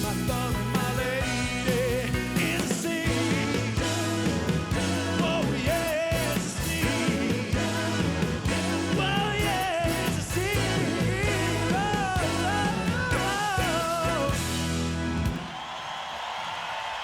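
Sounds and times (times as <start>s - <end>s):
rock band playing: 0.0s - 15.5s.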